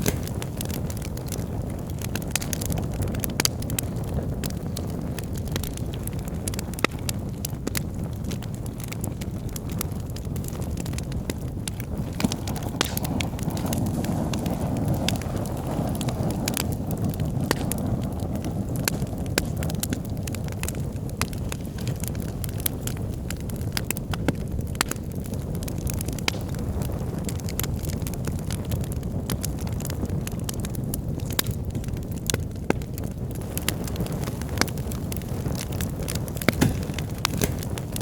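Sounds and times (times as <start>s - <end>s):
wood logs crackling in fireplace: 0.0s - 38.0s.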